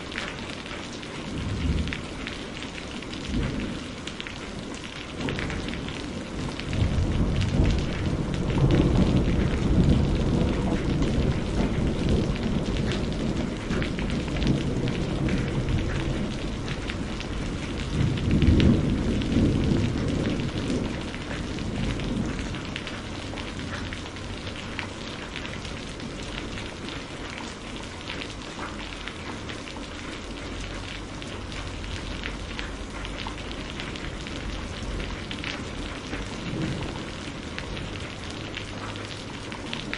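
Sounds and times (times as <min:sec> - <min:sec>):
heavy rain: 0:00.0 - 0:39.9
rolling thunder: 0:01.2 - 0:02.4, 0:03.0 - 0:27.0, 0:31.4 - 0:39.9.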